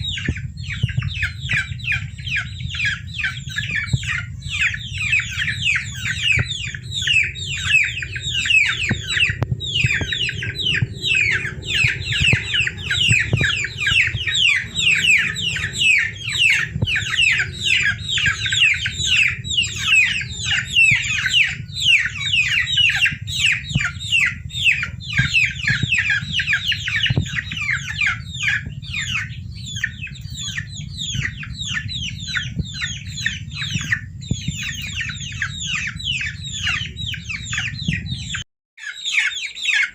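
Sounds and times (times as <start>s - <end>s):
steady low hum: 0.0s - 38.4s
baby chicks peeping: 0.0s - 39.9s.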